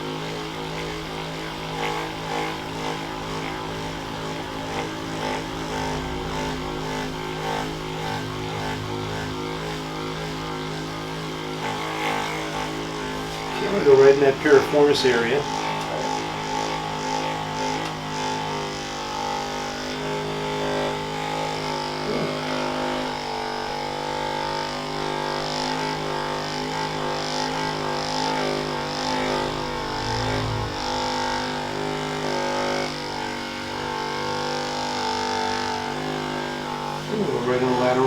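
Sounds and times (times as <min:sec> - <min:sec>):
electric massager motor humming: 0:00.0 - 0:38.0.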